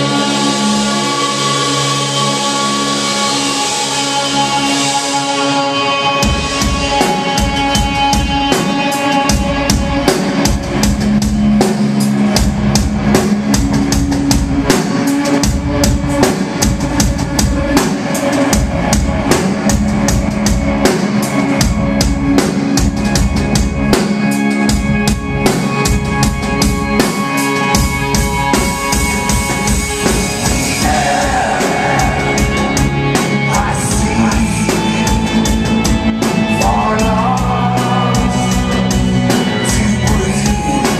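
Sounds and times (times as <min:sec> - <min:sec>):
drum kit beating: 0:00.0 - 0:40.9
electric guitar chords: 0:00.0 - 0:40.9.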